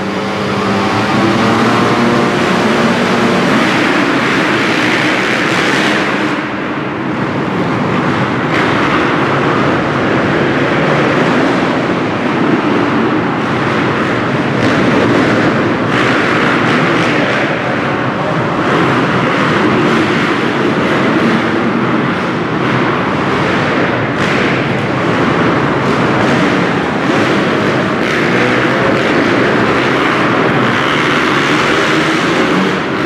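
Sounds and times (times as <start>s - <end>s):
dirt bike engines racing: 0.0s - 33.0s.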